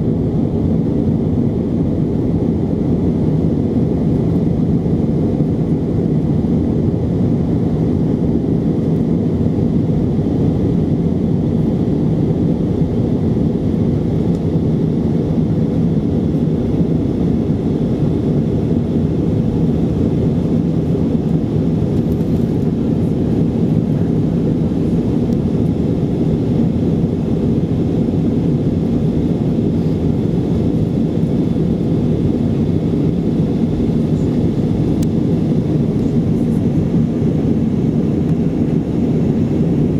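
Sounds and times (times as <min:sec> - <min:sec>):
faint constant hum: 0:00.0 - 0:39.9
jet engine rumble in cabin: 0:00.0 - 0:39.9.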